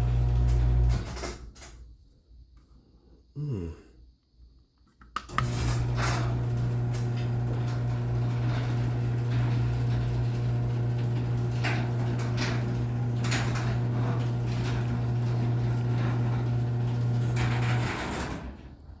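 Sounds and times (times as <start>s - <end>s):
garage door opener motor: 0.0s - 1.7s, 5.4s - 19.0s
garage door clicking and rattling: 0.0s - 1.9s, 5.3s - 19.0s.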